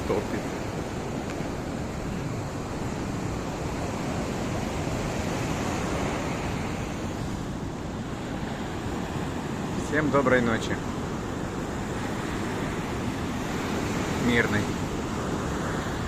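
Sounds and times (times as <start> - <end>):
waves washing onto shore: 0.0 - 16.0.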